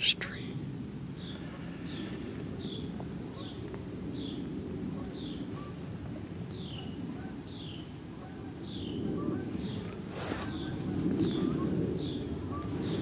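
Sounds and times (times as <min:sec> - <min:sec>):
steady low rumble: 0:00.0 - 0:07.2, 0:07.9 - 0:13.0.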